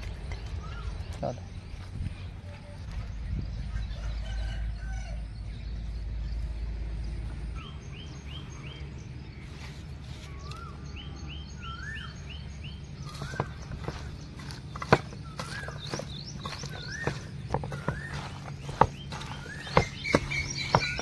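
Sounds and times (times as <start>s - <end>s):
songbird chirping and warbling: 0.0s - 21.0s.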